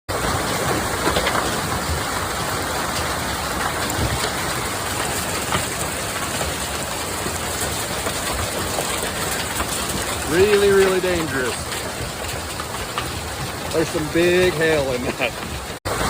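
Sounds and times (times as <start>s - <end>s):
hail and rain pelting down: 0.1s - 16.0s.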